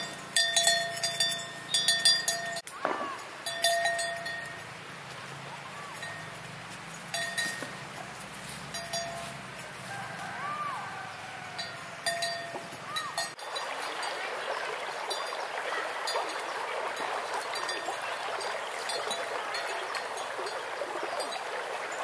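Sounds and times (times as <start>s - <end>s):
river water babbling: 0.0s - 22.0s.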